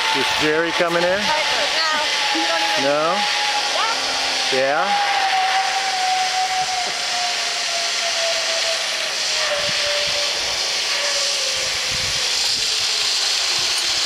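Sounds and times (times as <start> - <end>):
zip-line trolley on cable: 0.0 - 14.0.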